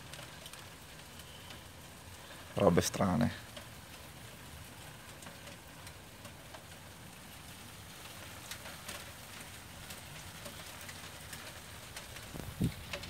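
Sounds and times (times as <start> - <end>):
hailstones falling on concrete: 0.0 - 13.0.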